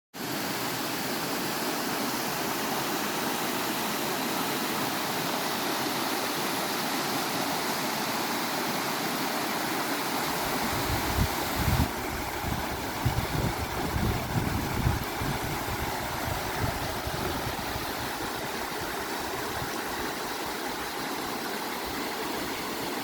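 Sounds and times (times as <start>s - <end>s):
flowing water rushing: 0.2s - 23.0s.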